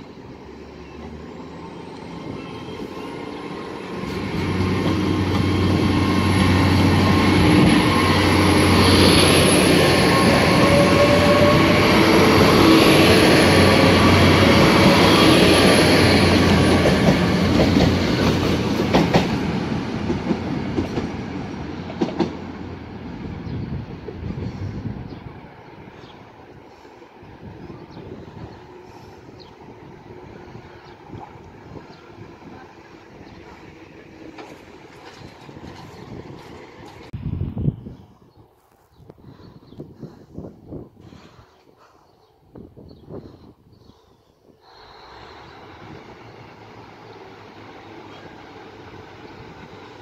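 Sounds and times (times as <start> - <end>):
train diesel engine drone: 0.0 - 37.5, 43.4 - 50.0.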